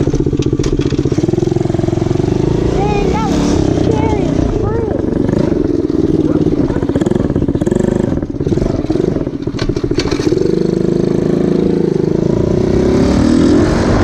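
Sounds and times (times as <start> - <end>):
quad engine running: 0.0 - 14.0.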